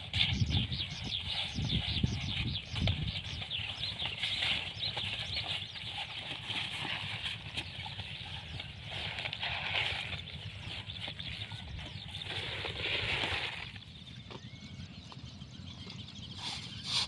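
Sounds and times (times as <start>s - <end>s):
low rumble: 0.0s - 16.7s
small birds chirping: 0.0s - 17.0s.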